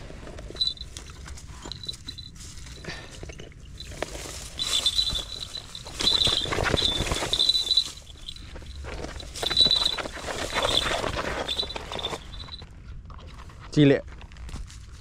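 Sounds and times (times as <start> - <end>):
dry straw rustling: 0.0 - 12.6.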